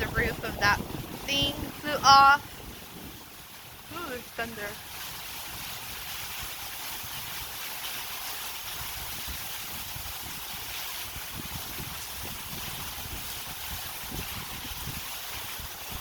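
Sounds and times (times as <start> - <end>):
wind buffeting microphone: 0.0 - 7.5, 8.6 - 16.0
heavy rain pouring: 0.0 - 16.0.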